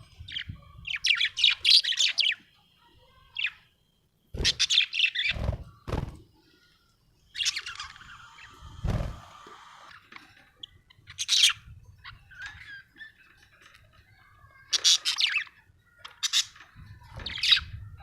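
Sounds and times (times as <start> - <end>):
soft warbling chatter: 0.0 - 18.0.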